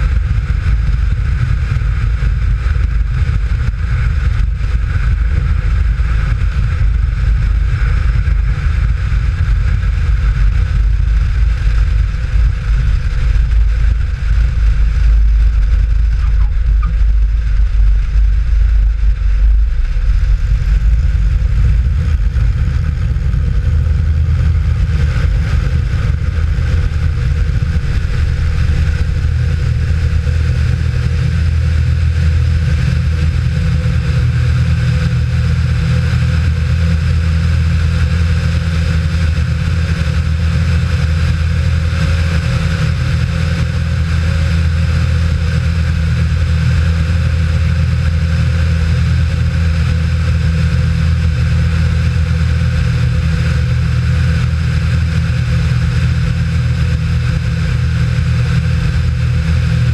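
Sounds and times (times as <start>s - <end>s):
air rushing over microphone: 0.0s - 59.9s
light aircraft engine droning: 0.0s - 59.9s.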